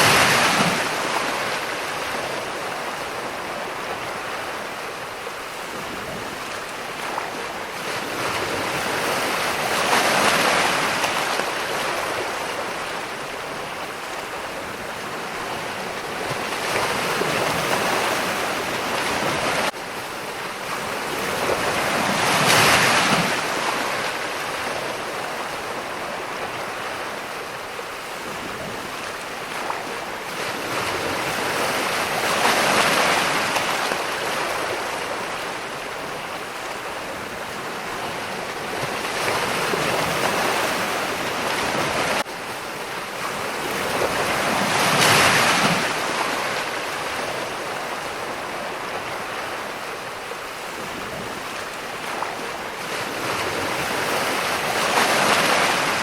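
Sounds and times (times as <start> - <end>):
waves breaking and washing in: 0.0 - 56.0.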